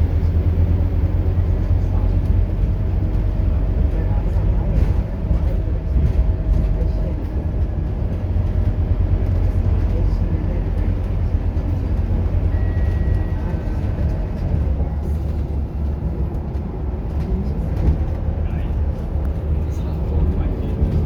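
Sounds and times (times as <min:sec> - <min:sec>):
bus diesel engine droning: 0:00.0 - 0:21.0.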